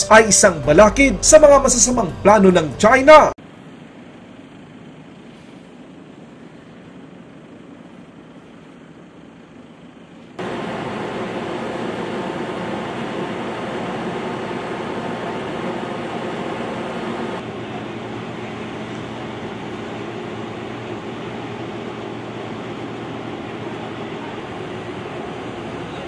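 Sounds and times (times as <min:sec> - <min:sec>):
engine hum: 0:00.0 - 0:26.0
ship machinery hum: 0:00.0 - 0:26.0.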